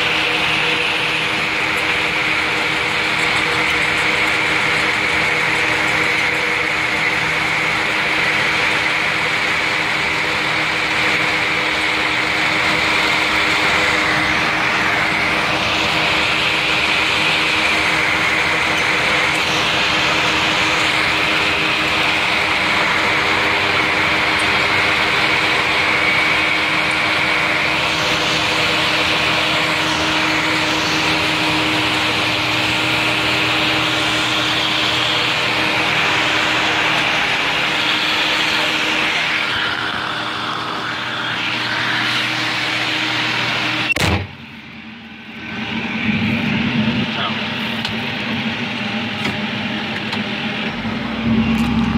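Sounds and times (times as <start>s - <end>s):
combine harvester running: 0.0s - 51.9s
high whine: 0.0s - 51.9s.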